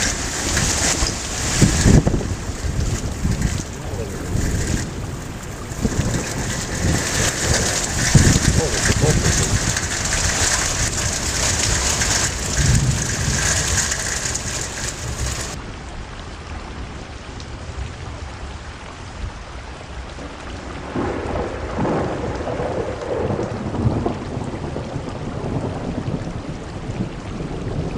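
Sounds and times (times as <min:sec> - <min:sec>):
thunder rumbling: 0:00.0 - 0:15.6, 0:20.2 - 0:27.9
heavy rain pouring: 0:00.0 - 0:27.9.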